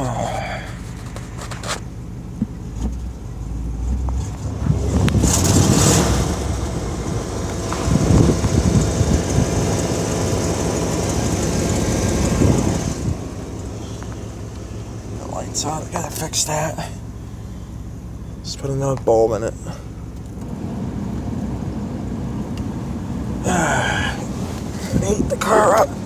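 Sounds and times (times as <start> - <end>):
car engine running: 0.0 - 26.0
road and tyre noise: 0.0 - 26.0.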